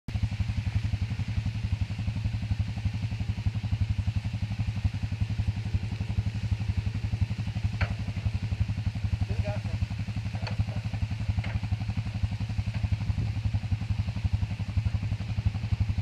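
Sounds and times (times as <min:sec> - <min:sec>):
small engine idling: 0:00.1 - 0:16.0.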